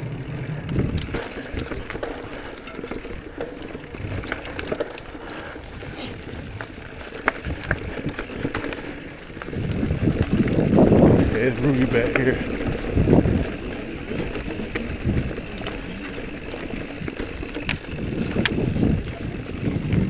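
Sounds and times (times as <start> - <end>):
bike clicking and rattling: 0.0 - 20.0
tyres rolling on dirt and leaves: 0.0 - 20.0.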